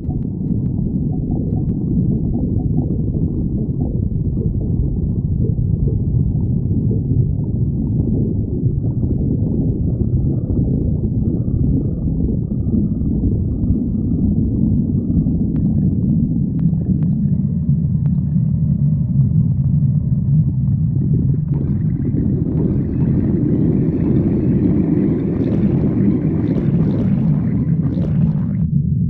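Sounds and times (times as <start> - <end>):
stomach growling: 0.0 - 28.8.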